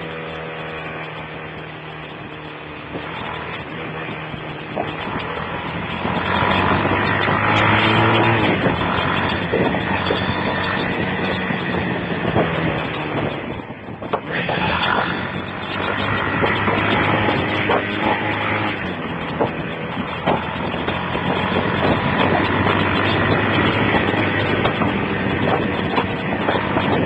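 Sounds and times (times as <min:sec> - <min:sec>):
motorcycle engine at speed: 0:00.0 - 0:27.0
rushing wind noise: 0:00.0 - 0:27.0.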